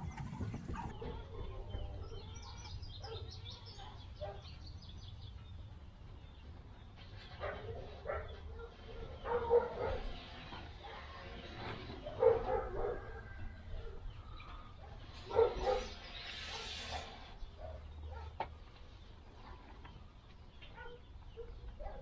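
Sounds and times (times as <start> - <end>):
low outdoor hum: 0.0 - 22.0.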